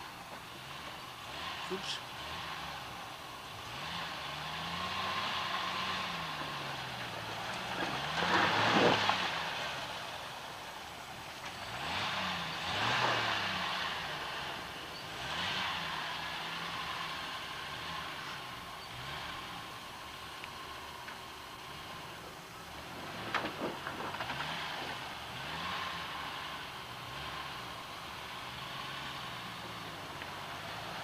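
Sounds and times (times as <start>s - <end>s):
engine revving: 0.0s - 31.0s.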